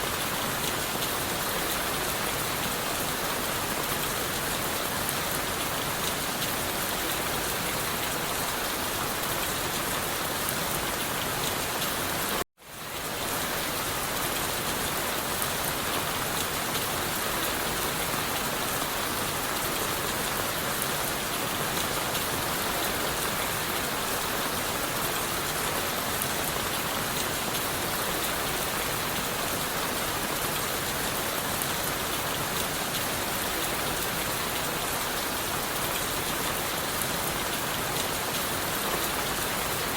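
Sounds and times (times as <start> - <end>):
rain on leaves and wood: 0.0 - 39.9.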